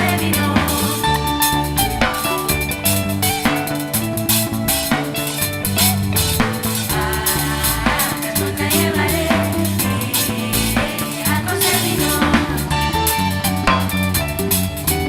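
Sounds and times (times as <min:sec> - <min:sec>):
bass line: 0:00.0 - 0:15.0
drum kit beat: 0:00.0 - 0:15.0
live band playing: 0:00.0 - 0:15.0.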